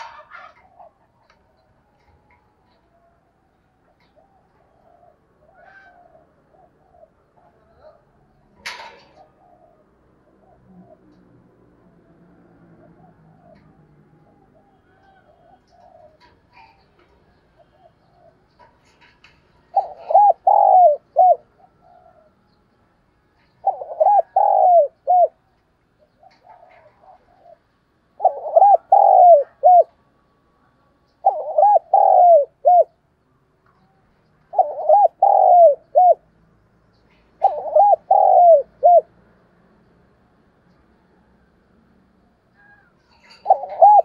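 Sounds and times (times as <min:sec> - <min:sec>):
dove cooing: 0:00.0 - 0:22.6, 0:23.4 - 0:30.1, 0:31.2 - 0:33.0, 0:34.5 - 0:36.3, 0:37.3 - 0:39.2, 0:42.6 - 0:44.0.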